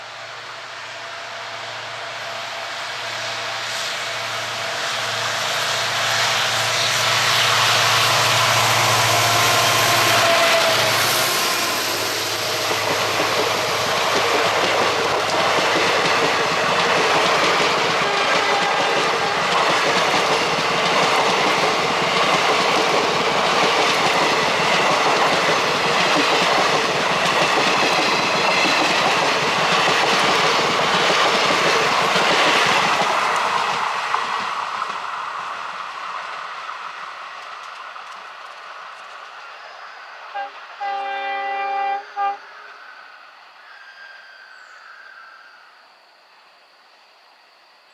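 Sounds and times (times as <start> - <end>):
train wheels on rails: 0.0 - 45.8
locomotive drone: 0.0 - 46.6.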